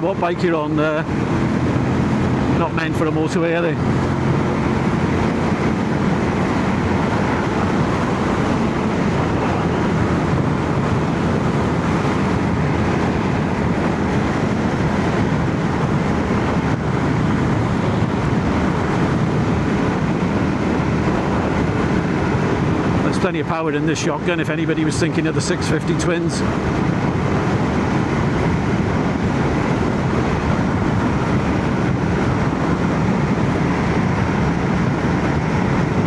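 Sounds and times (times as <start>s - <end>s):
motorcycle engine cruising: 0.0s - 36.0s
wind and road noise: 0.0s - 36.0s.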